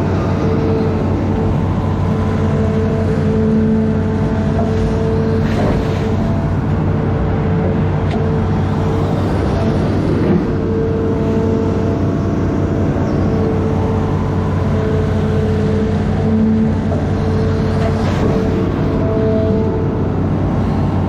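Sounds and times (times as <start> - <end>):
diesel engine droning under load: 0.0 - 21.0.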